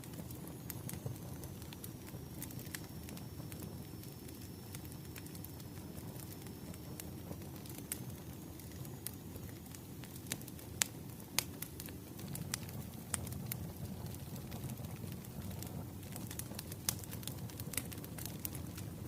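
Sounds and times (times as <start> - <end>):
sharp pops from fire: 0.0 - 19.0
wood fire crackling: 0.0 - 19.0.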